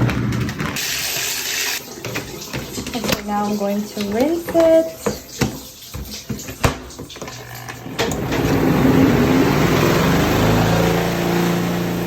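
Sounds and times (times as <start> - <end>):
washing machine motor humming: 0.0 - 12.0.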